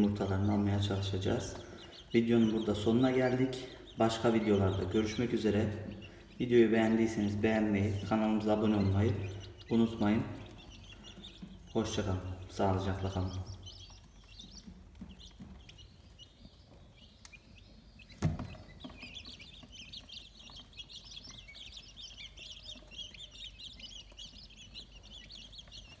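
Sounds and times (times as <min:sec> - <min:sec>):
quail chicks cheeping: 0:00.0 - 0:26.0.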